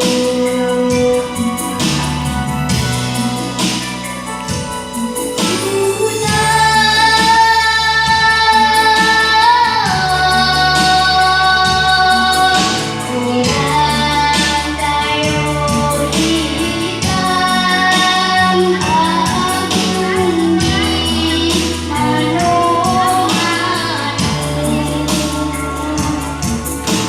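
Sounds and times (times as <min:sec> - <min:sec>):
girl singing: 0:00.0 - 0:02.2, 0:05.4 - 0:26.9
instrumental accompaniment: 0:00.0 - 0:27.0.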